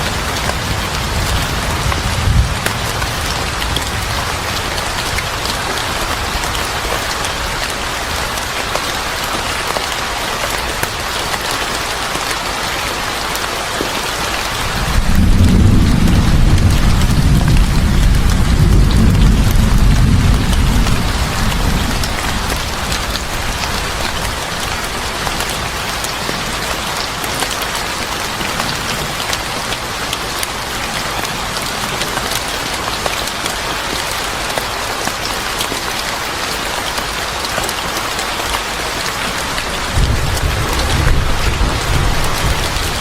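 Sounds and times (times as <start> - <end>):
heavy rain patter: 0.0 - 43.0.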